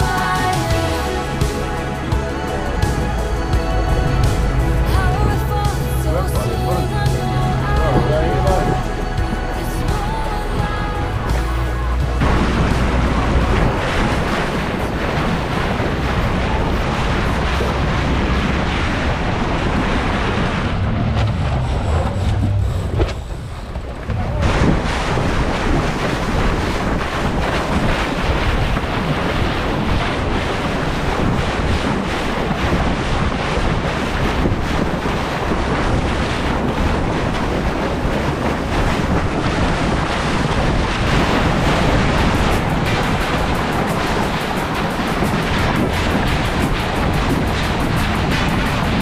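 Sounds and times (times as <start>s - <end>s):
water rushing along hull: 0.0s - 49.0s
wind buffeting microphone: 0.0s - 49.0s.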